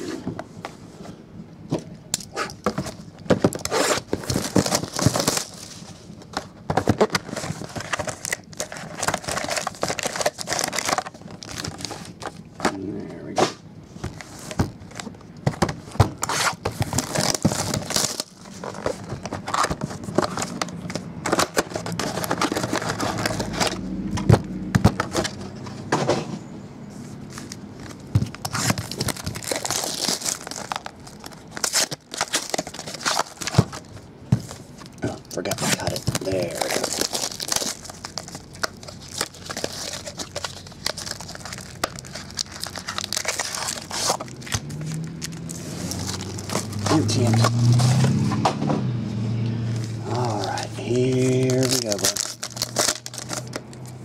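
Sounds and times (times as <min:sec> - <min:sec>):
shrink wrap tearing and crinkling: 0:02.2 - 0:13.3, 0:15.8 - 0:25.5, 0:27.3 - 0:48.2, 0:49.8 - 0:54.0.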